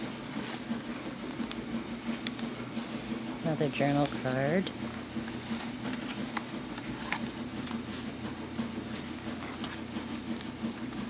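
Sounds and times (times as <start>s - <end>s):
paper pages rustling and sliding: 0.0s - 11.0s
steady low hum: 0.0s - 11.0s.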